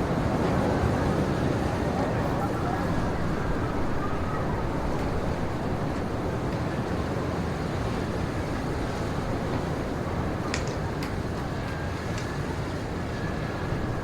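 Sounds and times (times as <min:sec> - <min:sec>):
steady wind noise: 0:00.0 - 0:14.0.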